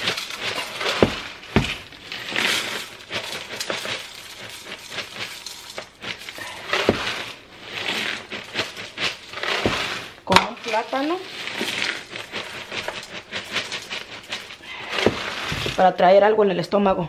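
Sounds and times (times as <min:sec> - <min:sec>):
cereal rattling into bowl: 0:00.0 - 0:15.9.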